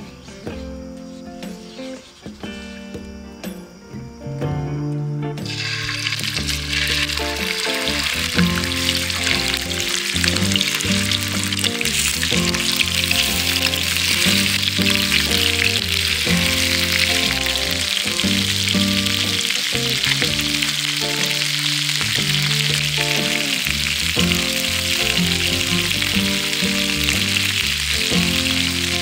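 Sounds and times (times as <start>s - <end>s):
background music: 0.0s - 29.0s
food sizzling in hot oil: 5.4s - 29.0s.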